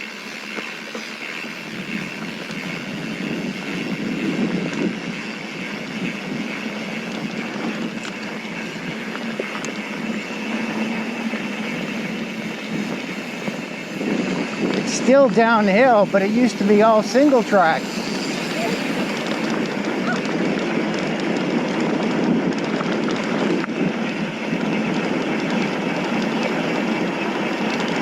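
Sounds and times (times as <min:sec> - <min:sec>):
bike rattling: 0:00.0 - 0:28.0
bike tyres on dirt and gravel: 0:00.0 - 0:28.0.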